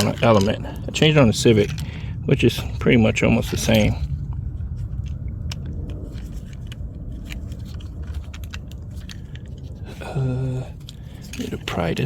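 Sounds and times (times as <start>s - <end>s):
tools clicking and scraping: 0.0s - 1.9s, 3.3s - 4.2s, 4.8s - 12.0s
steady low rumble: 0.0s - 12.0s.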